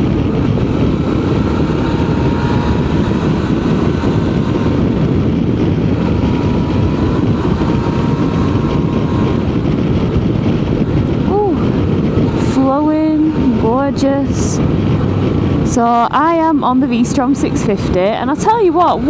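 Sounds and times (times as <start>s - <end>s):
faint steady whine: 0.0s - 19.0s
motorcycle engine running: 0.0s - 19.0s.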